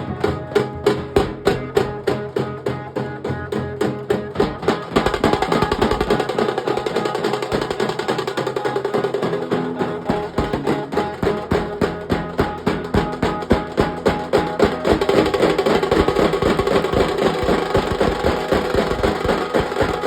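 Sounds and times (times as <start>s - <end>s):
dhol drumming: 0.0s - 20.0s.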